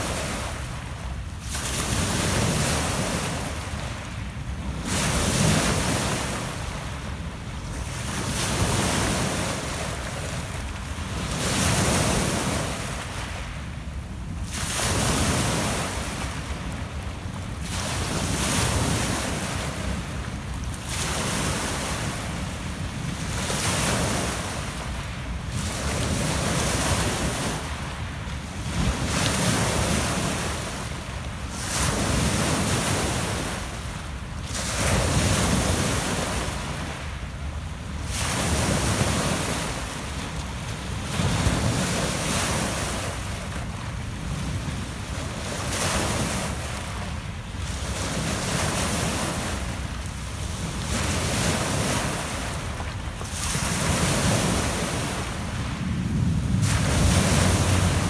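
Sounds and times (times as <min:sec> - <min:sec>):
waves breaking on pebble beach: 0:00.0 - 0:58.0.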